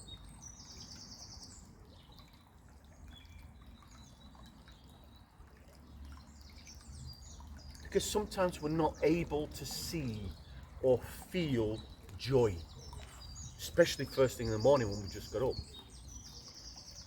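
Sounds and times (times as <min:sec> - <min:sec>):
brook babbling: 0:00.0 - 0:17.0
songbirds singing: 0:00.0 - 0:17.0.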